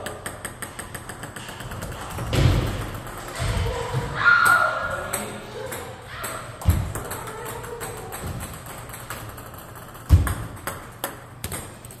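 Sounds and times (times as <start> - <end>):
table tennis ball clicking: 0.0 - 3.7, 4.4 - 12.0.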